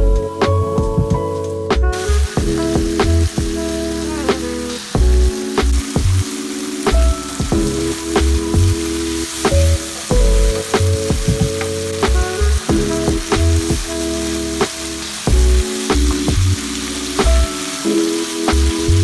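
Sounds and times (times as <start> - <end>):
music with chords and low beat: 0.0 - 19.0
food sizzling in a pan: 1.9 - 19.0.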